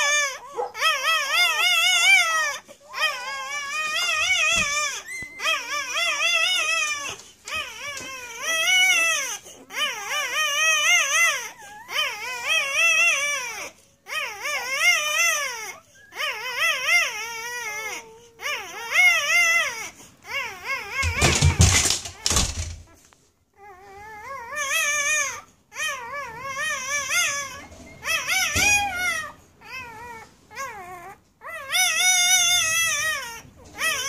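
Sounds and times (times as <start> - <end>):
puppy crying: 0.0 - 34.0.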